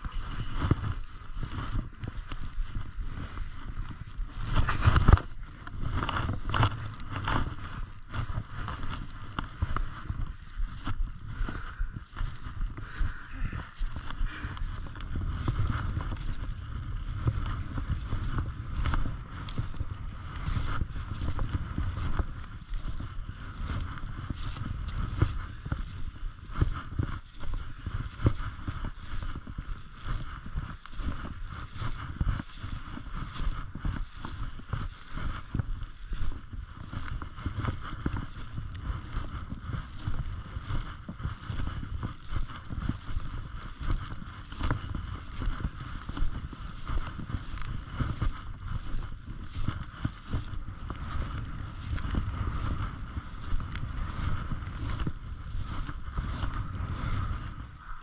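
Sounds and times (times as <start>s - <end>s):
snowshoes crunching through snow: 0.0s - 58.0s
wind buffeting microphone: 0.0s - 58.0s.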